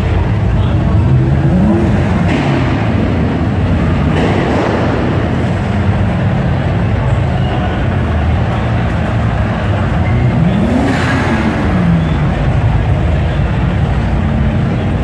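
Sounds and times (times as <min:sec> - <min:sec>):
car engine rumbling past: 0:00.0 - 0:15.0.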